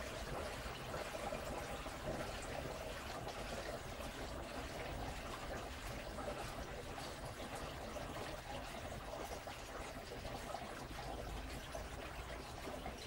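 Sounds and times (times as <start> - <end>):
washing machine churning water: 0.0 - 13.0.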